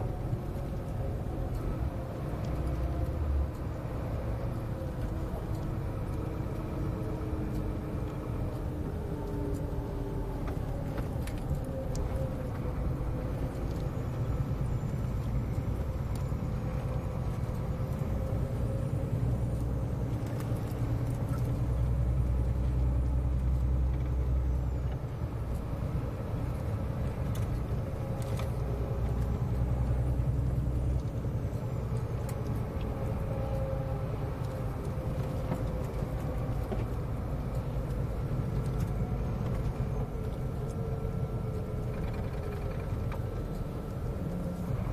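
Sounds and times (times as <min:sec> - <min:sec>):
diesel truck engine rumbling: 0:00.0 - 0:44.9.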